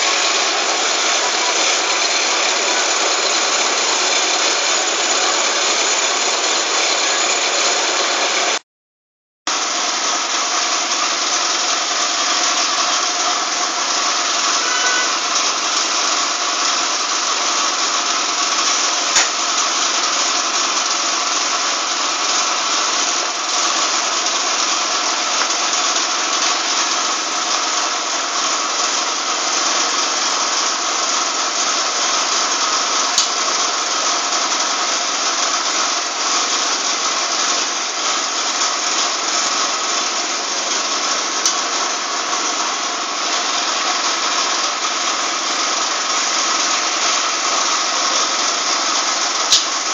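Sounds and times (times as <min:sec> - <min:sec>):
machine motor droning: 0:00.0 - 0:08.6, 0:09.5 - 0:49.9.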